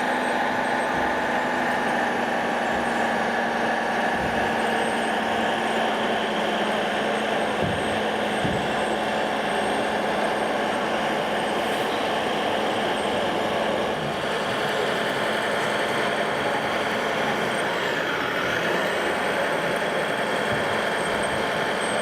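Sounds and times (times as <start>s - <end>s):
model machines mechanical din: 0.0s - 22.0s.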